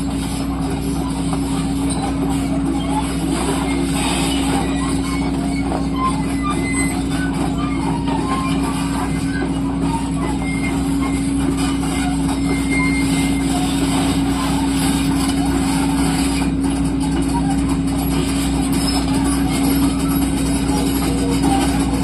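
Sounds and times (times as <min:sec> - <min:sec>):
diesel machinery droning: 0:00.0 - 0:22.0.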